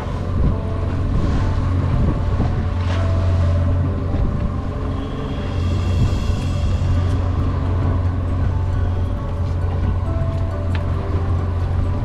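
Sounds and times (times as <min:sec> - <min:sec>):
outboard motor running: 0:00.0 - 0:12.0
wind buffeting microphone: 0:00.0 - 0:12.0.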